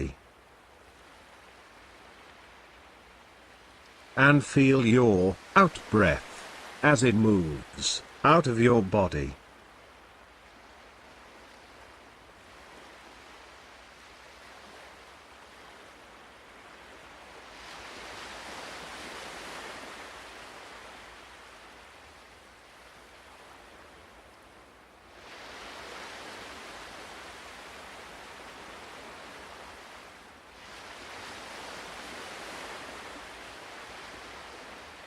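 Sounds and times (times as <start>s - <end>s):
ocean waves washing: 0.0s - 35.0s.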